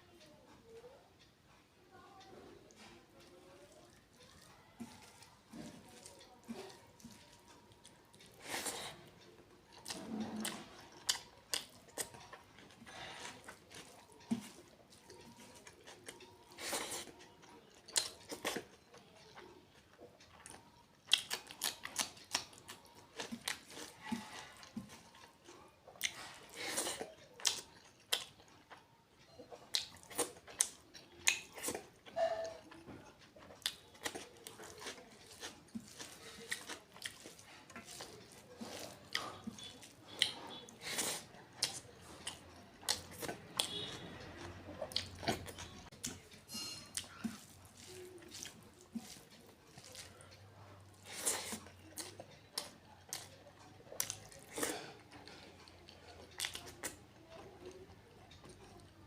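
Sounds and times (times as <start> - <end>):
chewing and mouth smacking: 2.7 - 59.0.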